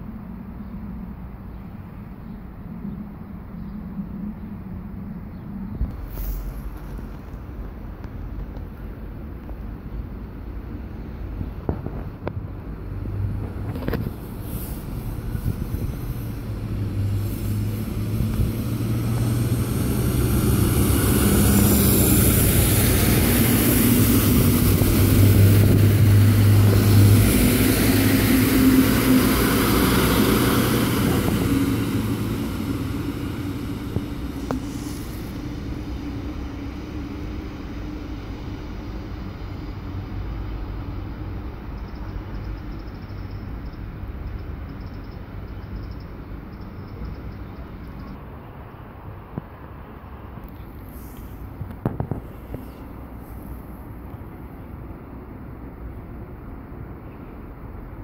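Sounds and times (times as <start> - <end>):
diesel train drone: 0.0 - 58.0
wheel and rail noise: 0.0 - 58.0.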